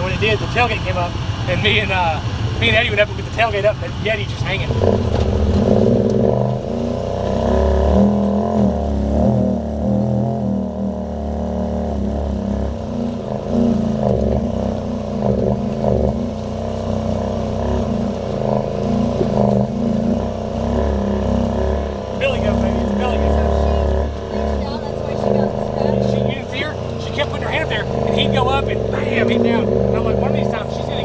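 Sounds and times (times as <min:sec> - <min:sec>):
utility vehicle engine under load: 0:00.0 - 0:31.0.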